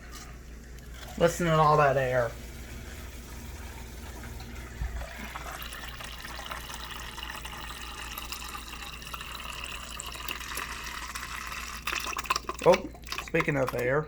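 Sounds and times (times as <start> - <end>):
water running into plastic cup: 0.4 - 14.0.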